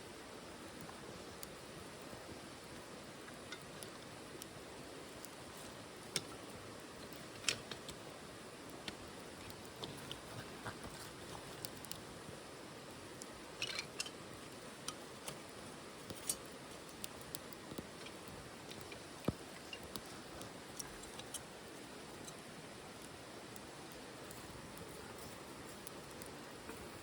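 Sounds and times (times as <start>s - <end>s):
wood fire crackling and popping: 0.1s - 27.0s.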